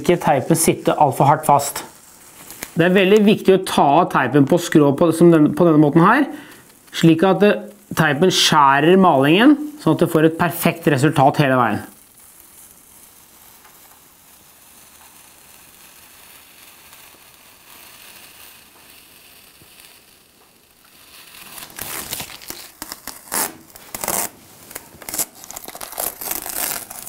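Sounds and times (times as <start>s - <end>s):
masking tape peeling off a wall: 0.0s - 3.6s, 5.6s - 27.0s
tape crackling and rustling: 0.0s - 27.0s.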